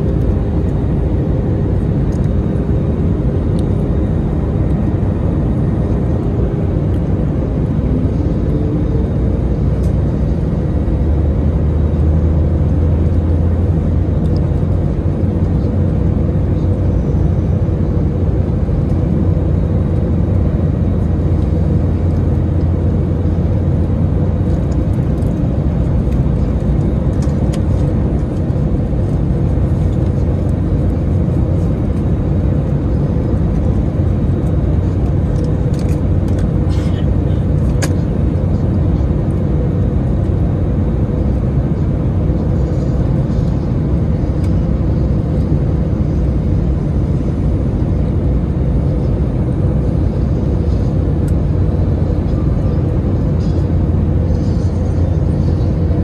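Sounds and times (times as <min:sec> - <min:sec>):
jet engine and airflow rumble: 0:00.0 - 0:56.0
mid-pitched hum: 0:00.0 - 0:56.0.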